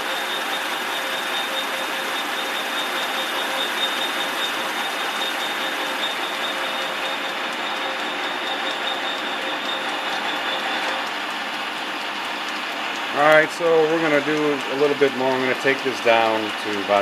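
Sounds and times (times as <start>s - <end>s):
metal lathe cutting: 0.0s - 17.0s.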